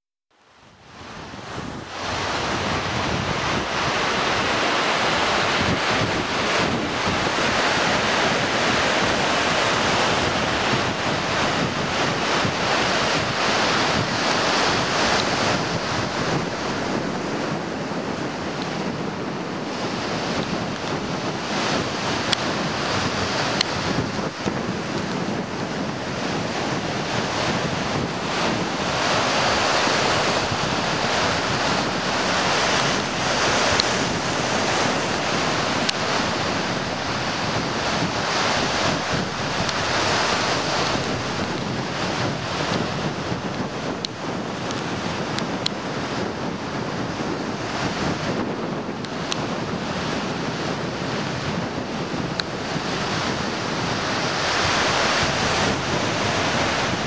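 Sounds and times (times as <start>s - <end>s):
rushing wind: 0.3s - 57.0s
surf: 0.4s - 57.0s.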